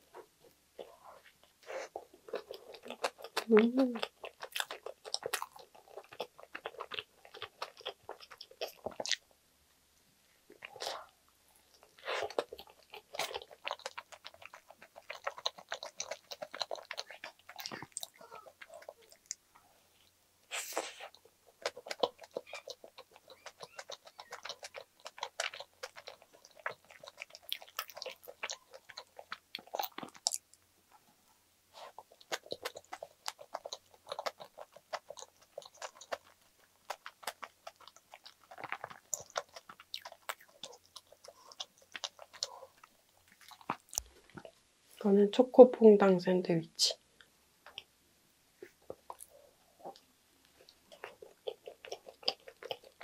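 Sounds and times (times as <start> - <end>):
person chewing a sandwich: 0.0 - 9.3, 10.4 - 44.6, 48.6 - 53.0.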